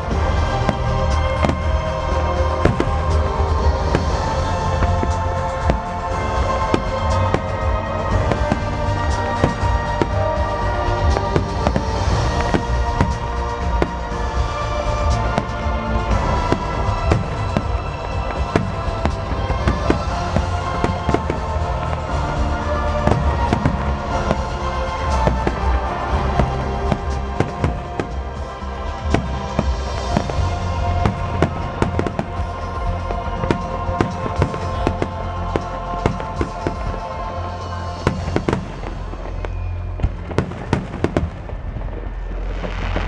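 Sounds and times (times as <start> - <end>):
music with sustained tones: 0.0 - 43.0.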